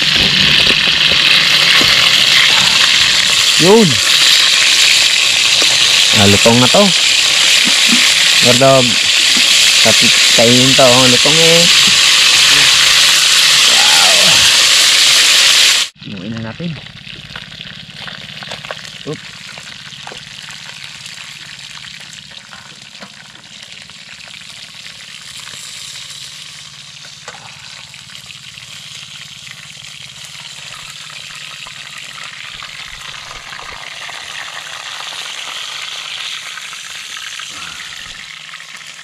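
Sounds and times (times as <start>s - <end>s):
fish frying in oil: 0.0s - 39.0s.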